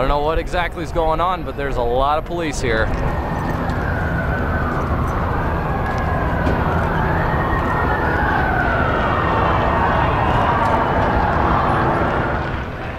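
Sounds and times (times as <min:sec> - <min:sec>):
street noise rumble: 0:00.0 - 0:12.9
siren wailing: 0:01.0 - 0:12.9.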